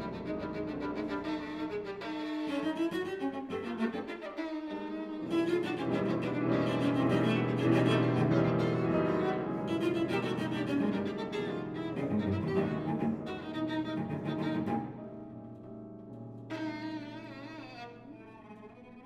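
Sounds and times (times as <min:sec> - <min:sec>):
cello and violin bowing: 0:00.0 - 0:15.2, 0:16.5 - 0:19.0
piano: 0:00.0 - 0:19.0.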